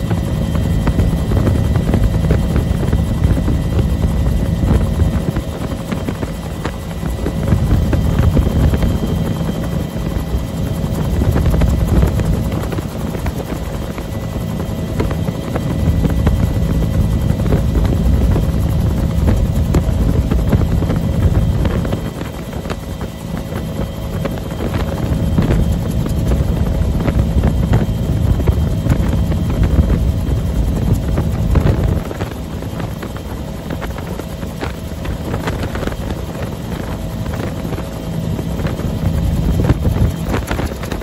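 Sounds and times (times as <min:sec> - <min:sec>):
helicopter rotor beats: 0:00.0 - 0:41.0
helicopter turbine whine: 0:00.0 - 0:41.0.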